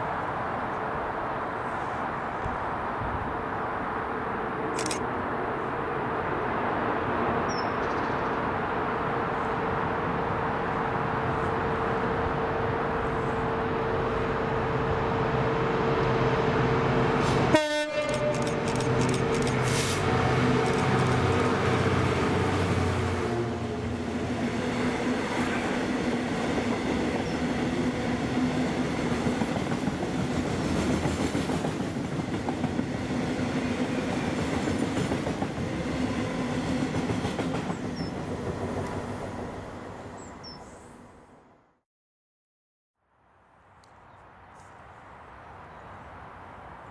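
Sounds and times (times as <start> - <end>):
diesel locomotive engine passing: 0.0 - 41.6.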